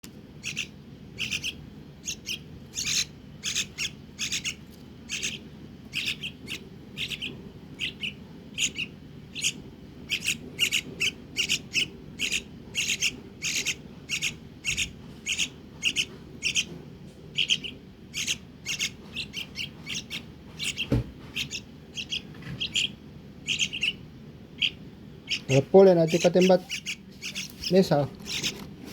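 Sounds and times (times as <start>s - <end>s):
young bird chirping: 0.3s - 28.6s.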